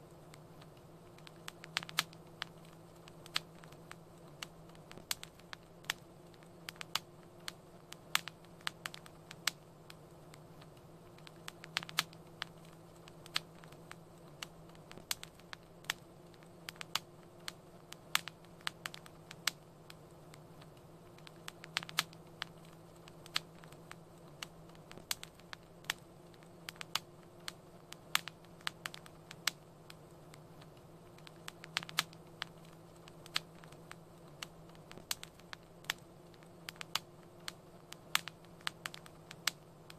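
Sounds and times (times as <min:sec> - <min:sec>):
low steady hum: 0:00.0 - 0:39.9
wood fire crackling: 0:00.0 - 0:39.9.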